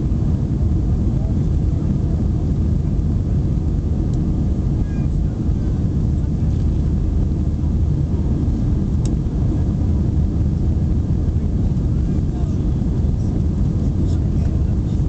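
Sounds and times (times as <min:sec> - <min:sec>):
jet engine and airflow rumble: 0:00.0 - 0:15.0.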